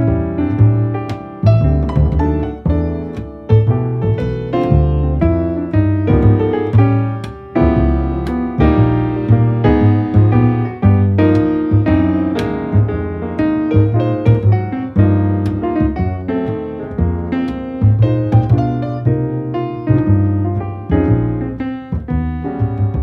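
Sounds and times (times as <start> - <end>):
piano-led instrumental music: 0.0 - 23.0.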